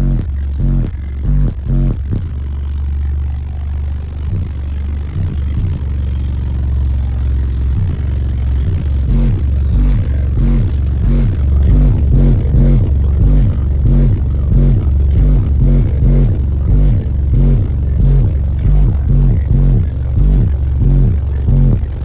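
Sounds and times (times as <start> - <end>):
bass-heavy rap music: 0.0 - 22.0.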